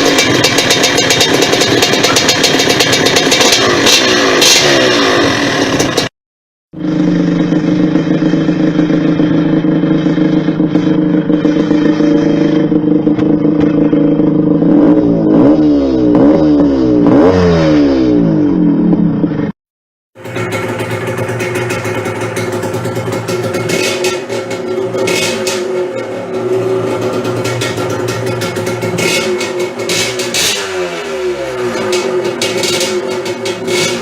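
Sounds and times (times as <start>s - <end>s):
two-stroke motorcycle engine revving: 0.0s - 6.1s, 6.7s - 19.6s, 20.2s - 34.0s.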